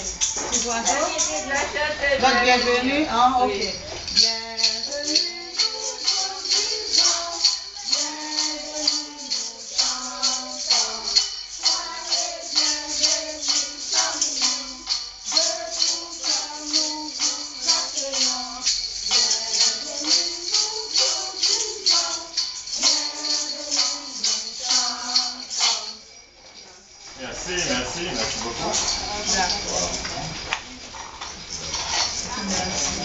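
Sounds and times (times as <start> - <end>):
rattling shaker beat: 0.0 - 33.0.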